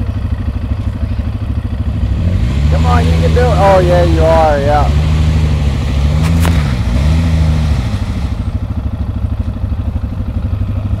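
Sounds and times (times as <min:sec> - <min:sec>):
quad engine revving: 0:00.0 - 0:08.8.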